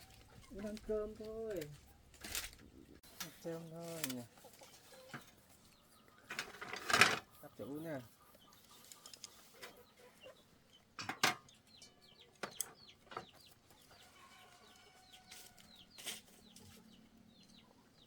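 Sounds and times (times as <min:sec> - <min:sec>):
chicks peeping: 0:00.0 - 0:06.3, 0:07.3 - 0:18.0
chickens clucking: 0:00.0 - 0:18.0.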